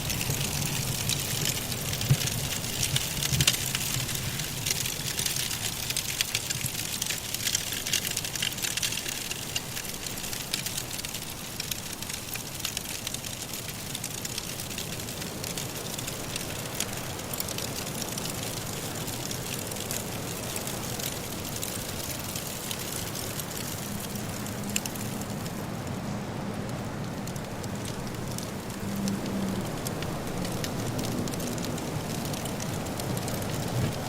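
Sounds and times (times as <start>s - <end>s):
soft blizzard wind: 0.0s - 34.0s
wood fire crackling: 0.0s - 34.0s.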